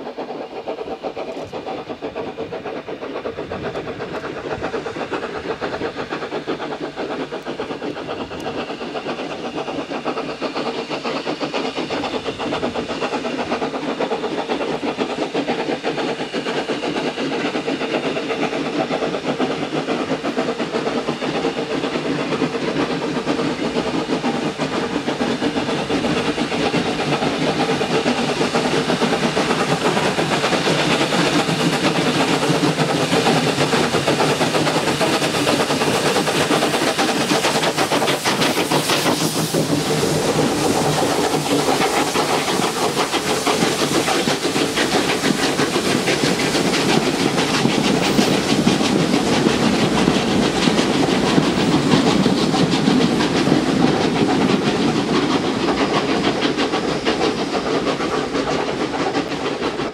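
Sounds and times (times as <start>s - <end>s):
steam locomotive exhaust beats: 0.0s - 59.9s
train running: 0.0s - 59.9s.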